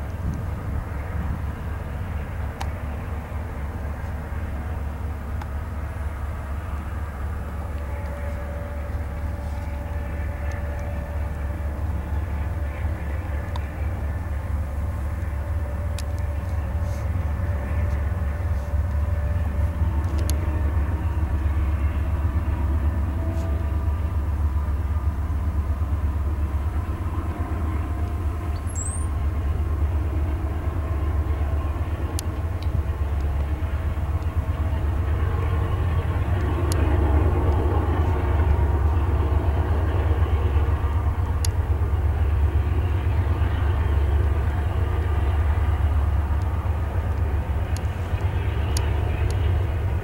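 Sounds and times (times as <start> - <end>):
distant freight train rumble: 0.0 - 50.0.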